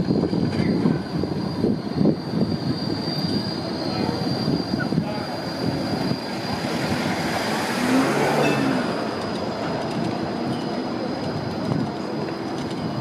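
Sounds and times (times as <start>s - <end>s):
tram motor hum: 0.0s - 13.0s
tram wheels on rails: 0.0s - 13.0s.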